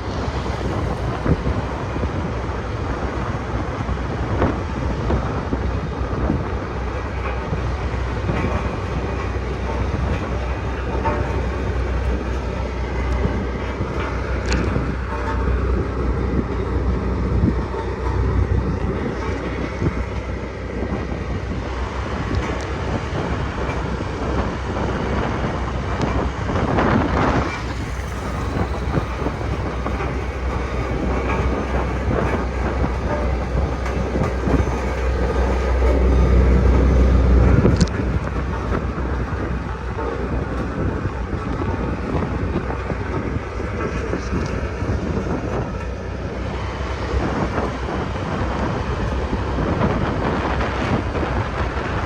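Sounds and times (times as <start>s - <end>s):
road roller diesel engine rumbling: 0.0s - 52.0s.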